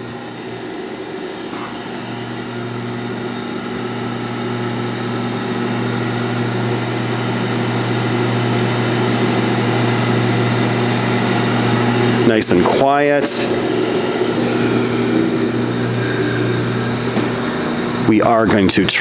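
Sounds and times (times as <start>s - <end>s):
sander conveyor drive humming: 0.0s - 19.0s.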